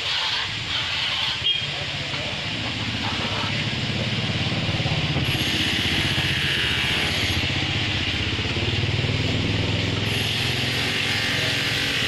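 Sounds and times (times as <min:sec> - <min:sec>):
engine running steadily: 0:00.3 - 0:12.0.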